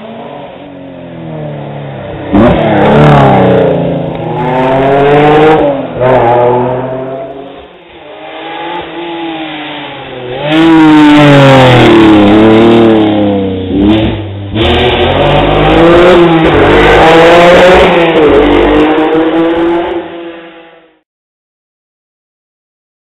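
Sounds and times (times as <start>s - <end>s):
rally car engine passing at speed: 0.0s - 20.9s.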